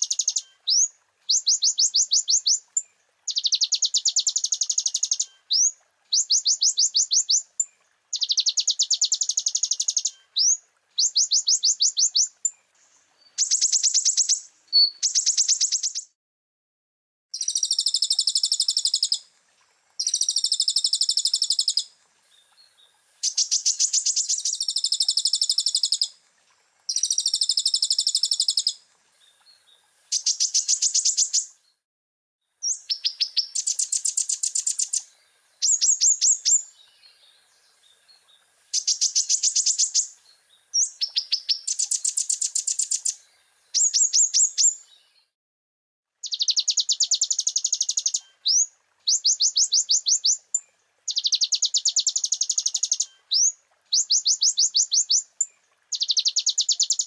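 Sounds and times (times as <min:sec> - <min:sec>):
sunbird singing trilled phrases: 0:00.0 - 0:16.2, 0:17.3 - 0:19.3, 0:20.0 - 0:26.2, 0:26.9 - 0:31.8, 0:32.6 - 0:45.3, 0:46.2 - 0:57.0.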